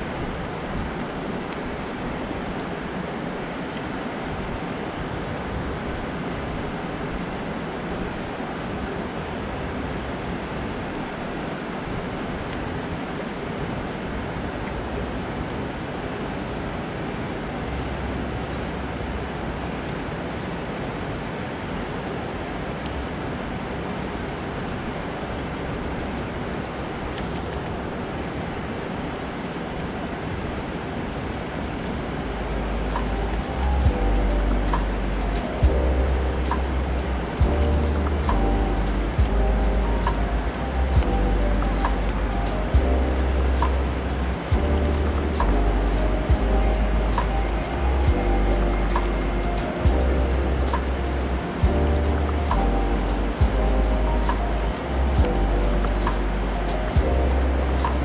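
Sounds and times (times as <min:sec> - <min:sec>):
water rushing over dam spillway: 0:00.0 - 0:58.0.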